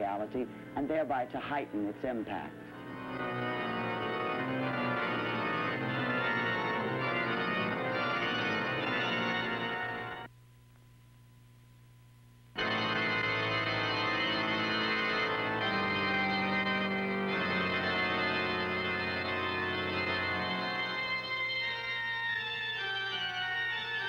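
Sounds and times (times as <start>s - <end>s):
organ chords: 0.0s - 10.3s, 12.6s - 24.0s.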